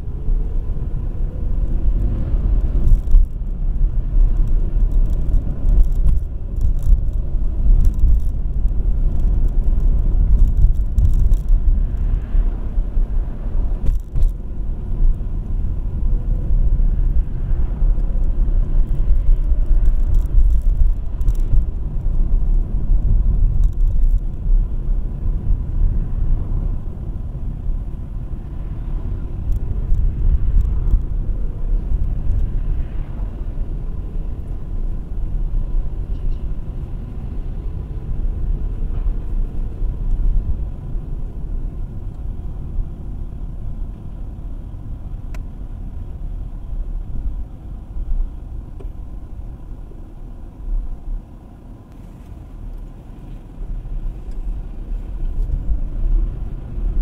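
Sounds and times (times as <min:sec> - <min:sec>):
car engine and tyres rumble: 0:00.0 - 0:57.0.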